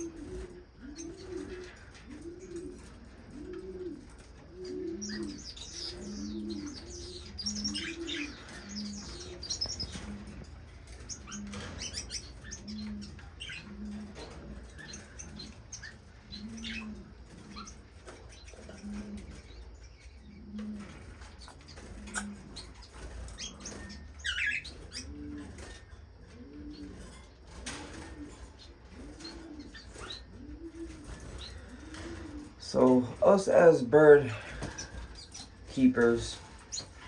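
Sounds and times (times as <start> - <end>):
bird cooing: 0.0 - 37.0
finch chirps: 0.0 - 37.0.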